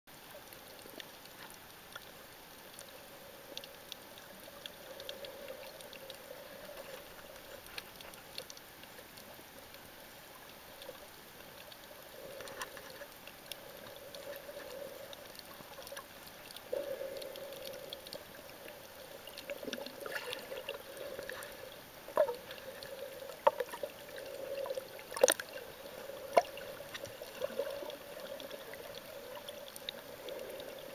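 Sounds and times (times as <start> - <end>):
faint underwater clicks: 0.1 - 30.9
underwater sloshing and gurgling: 0.1 - 30.9.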